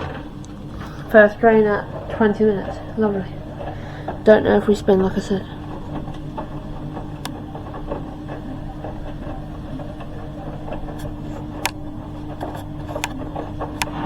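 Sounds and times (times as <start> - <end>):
drain pump humming: 0.0 - 14.0.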